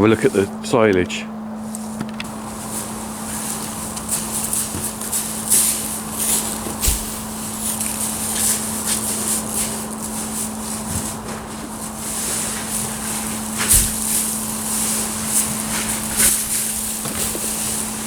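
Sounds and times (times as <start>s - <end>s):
steady low hum: 0.0s - 18.0s
footsteps: 1.7s - 18.0s
plastic sheet rustling and crunching: 1.8s - 18.0s.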